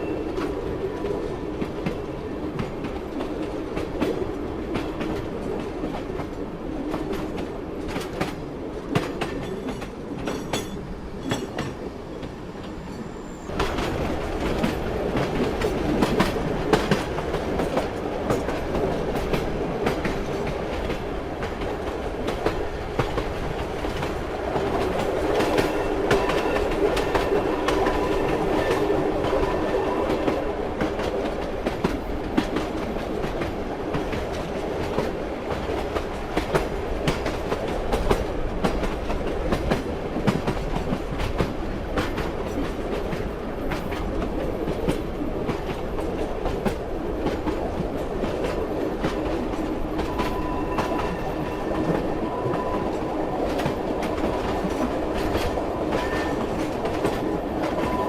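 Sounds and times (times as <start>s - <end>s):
railway carriage rumble: 0.0s - 58.0s
train wheels clickety-clack: 0.0s - 58.0s.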